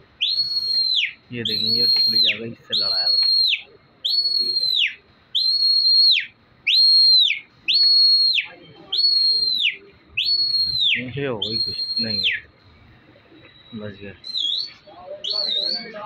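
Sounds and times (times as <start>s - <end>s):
shrill human whistling: 0.2s - 12.5s, 13.3s - 16.0s.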